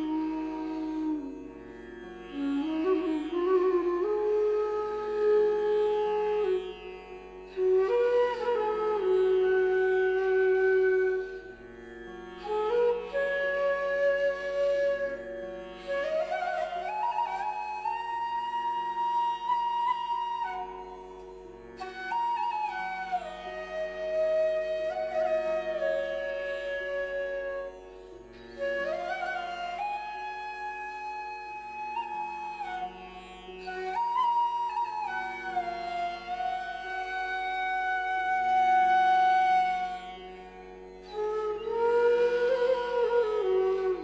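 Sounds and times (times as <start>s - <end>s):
slow flute melody: 0.0s - 1.6s, 2.3s - 6.6s, 7.5s - 11.5s, 12.4s - 40.4s, 41.0s - 44.0s.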